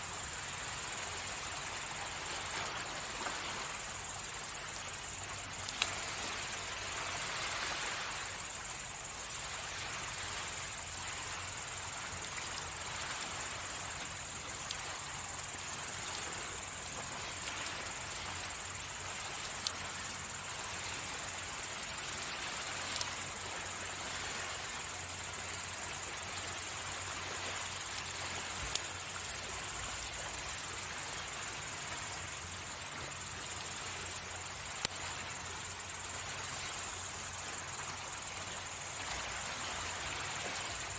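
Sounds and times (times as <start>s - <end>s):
crickets trilling: 0.0s - 40.9s
waves on the shore: 0.0s - 40.9s
wood fire crackling: 0.1s - 38.9s.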